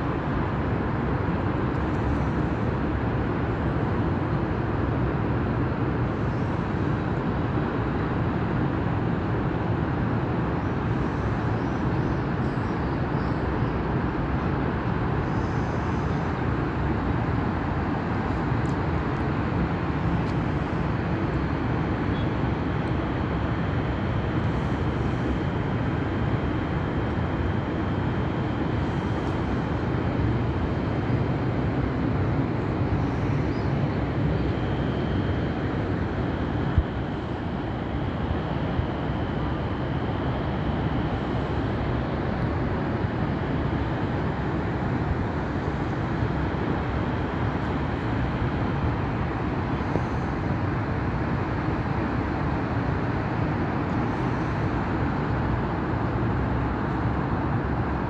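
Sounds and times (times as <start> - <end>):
distant city traffic rumble: 0.0 - 58.0.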